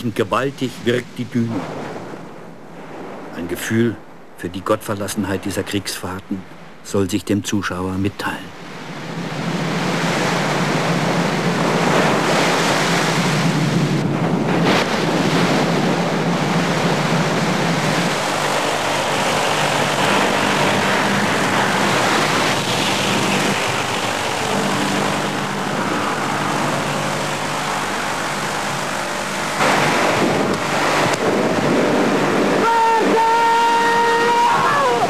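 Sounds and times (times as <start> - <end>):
low steady hum: 0.0 - 35.0
rushing wind: 0.0 - 35.0
waves breaking: 0.0 - 35.0.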